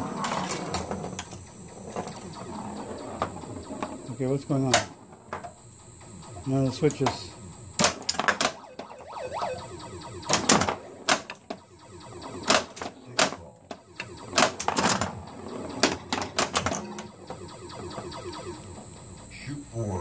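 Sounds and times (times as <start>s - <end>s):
pinball machine clacks and knocks: 0.0s - 5.6s, 6.2s - 8.9s, 10.2s - 18.6s.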